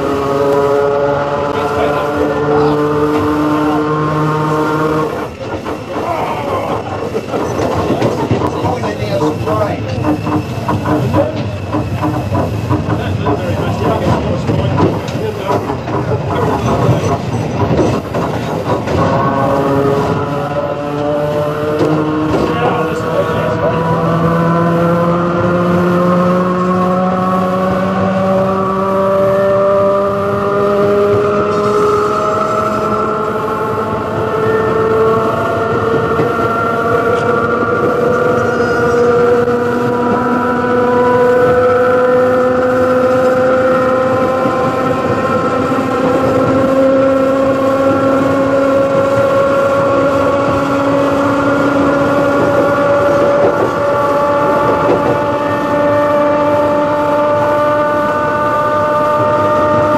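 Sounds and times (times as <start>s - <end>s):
train rattling on rails: 0.0s - 59.9s.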